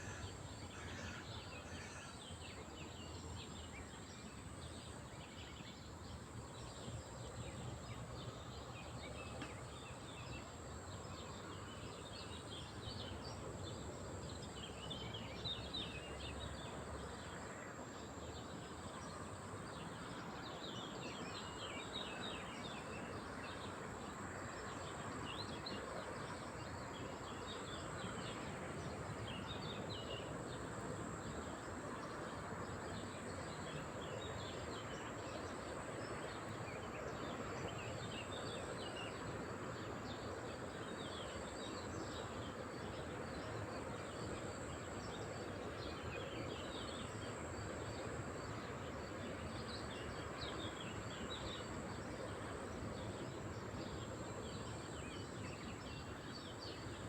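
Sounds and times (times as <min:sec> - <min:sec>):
outdoor noise: 0:00.0 - 0:57.0.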